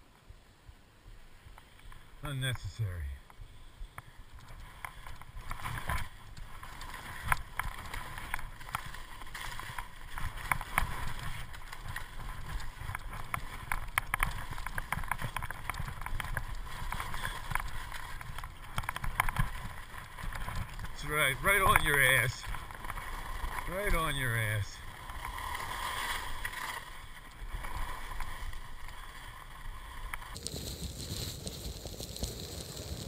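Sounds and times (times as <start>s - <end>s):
skis scraping over snow: 1.6s - 33.0s.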